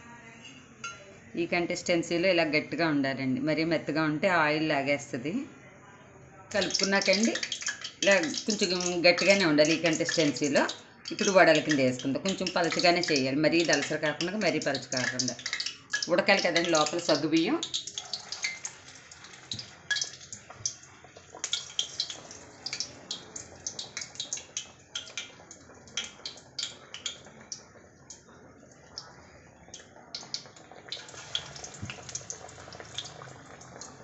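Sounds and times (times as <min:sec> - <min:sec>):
oil sizzling with crackles: 0:06.5 - 0:34.0.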